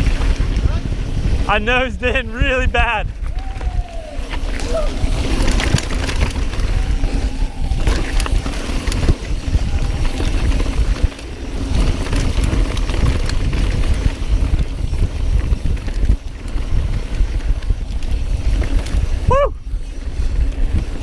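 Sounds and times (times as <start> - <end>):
bike knocking and rattling: 0.0 - 21.0
bike tyres on dirt trail: 0.0 - 21.0
wind buffeting microphone: 0.0 - 21.0.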